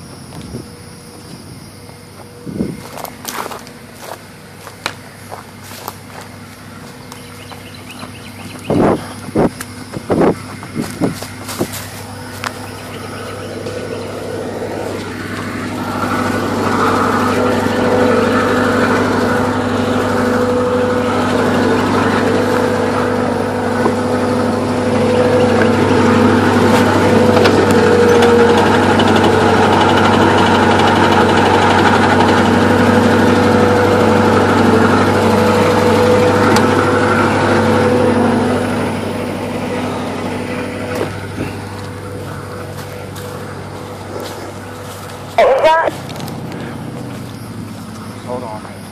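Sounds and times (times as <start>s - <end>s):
motor engine running: 0.0s - 48.9s.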